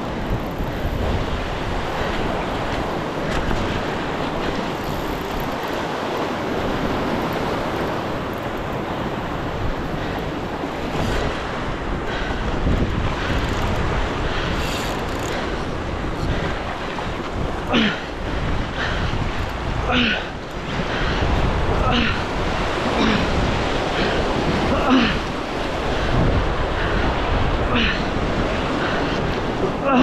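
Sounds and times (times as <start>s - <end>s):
ocean surf over rocks: 0.0s - 30.0s
wind buffeting microphone: 0.0s - 30.0s.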